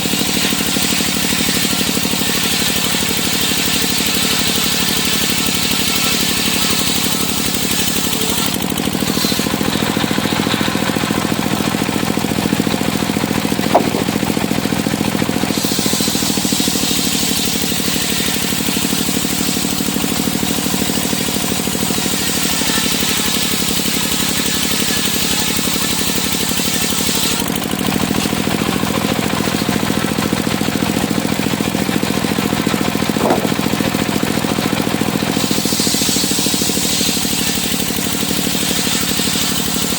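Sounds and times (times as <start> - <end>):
circular sawmill running: 0.0 - 39.9.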